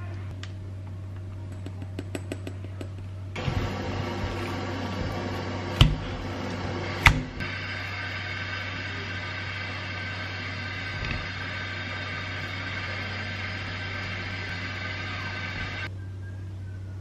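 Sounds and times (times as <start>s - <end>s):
low machine hum: 2.6s - 17.0s.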